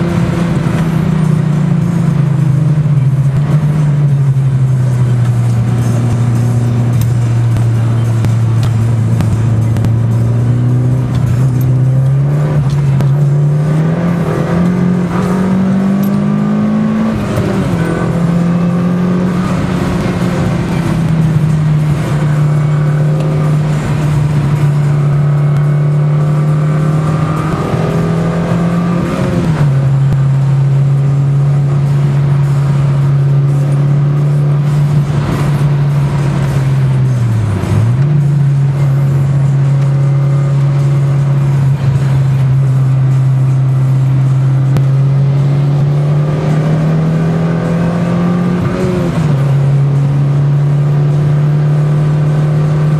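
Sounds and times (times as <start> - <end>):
car engine while driving: 0.0 - 52.9.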